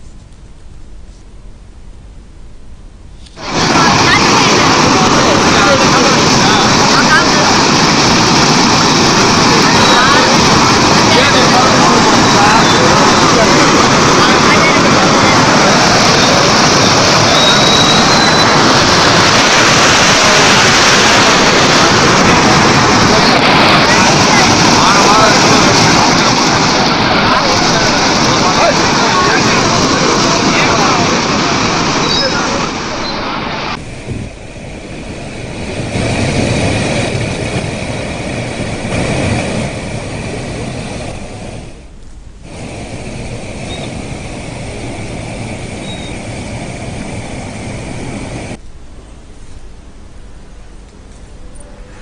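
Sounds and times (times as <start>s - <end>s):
turbulent water rushing: 3.4s - 48.6s.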